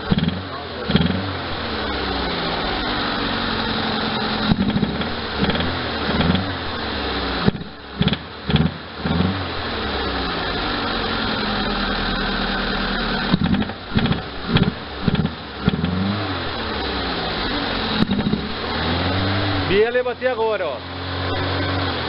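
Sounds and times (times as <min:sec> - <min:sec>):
car engine throttle blips: 0:00.0 - 0:22.0.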